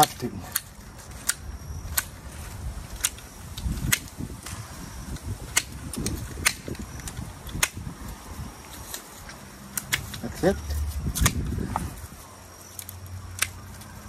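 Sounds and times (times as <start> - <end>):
leaves rustling: 0.0 - 14.0
secateurs snipping stems: 0.0 - 14.0.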